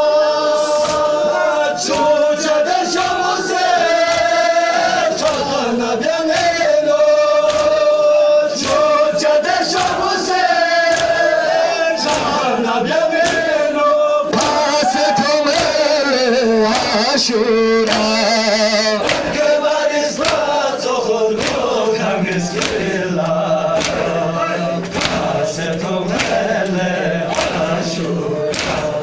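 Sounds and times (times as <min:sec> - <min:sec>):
men chanting: 0:00.0 - 0:29.0.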